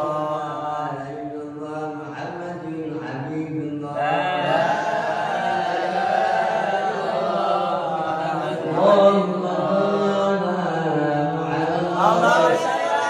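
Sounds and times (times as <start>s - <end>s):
man chanting melodically: 0.0s - 5.5s, 6.6s - 13.0s.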